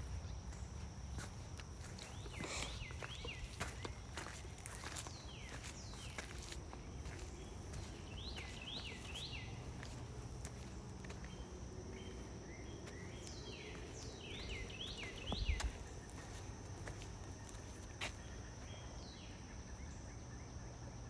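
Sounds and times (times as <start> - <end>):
footsteps on trail: 0.0 - 18.8
songbird chirping: 0.0 - 21.0.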